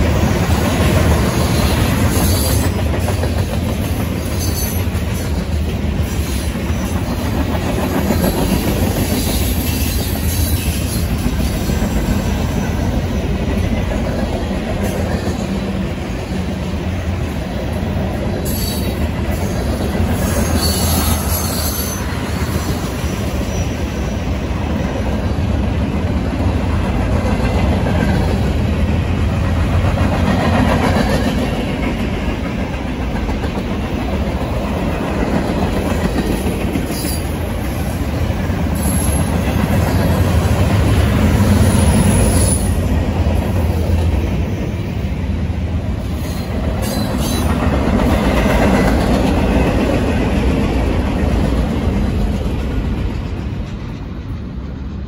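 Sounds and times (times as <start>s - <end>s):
freight train wheels clattering: 0.0s - 55.0s.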